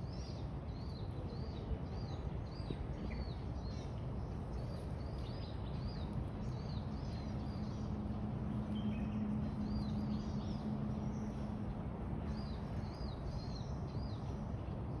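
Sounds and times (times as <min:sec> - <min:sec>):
steady outdoor rumble: 0:00.0 - 0:15.0.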